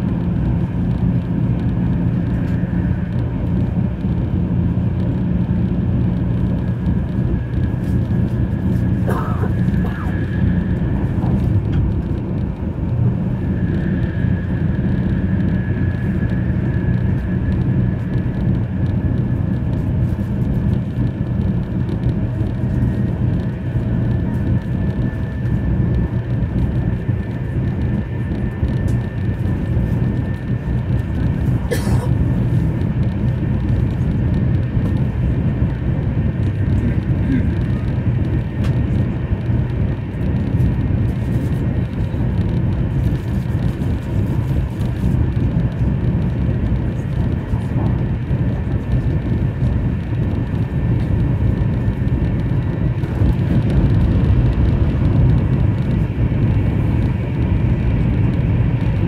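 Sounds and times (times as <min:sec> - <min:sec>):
train rumble inside cabin: 0:00.0 - 0:59.0.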